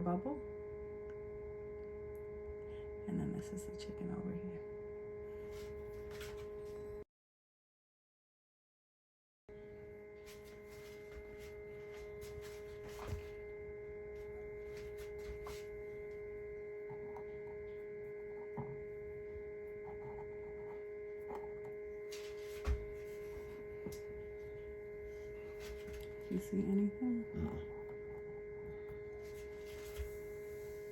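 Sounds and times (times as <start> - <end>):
steady electrical hum: 0.0 - 7.0, 9.5 - 30.9.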